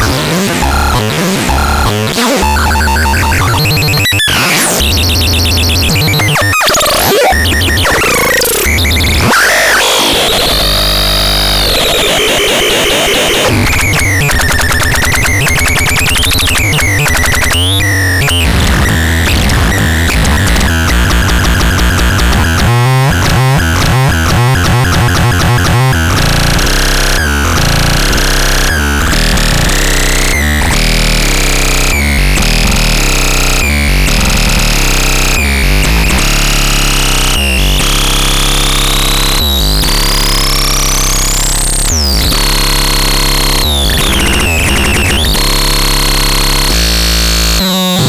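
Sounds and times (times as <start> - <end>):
harsh synthesizer sounds: 0.0 - 48.0.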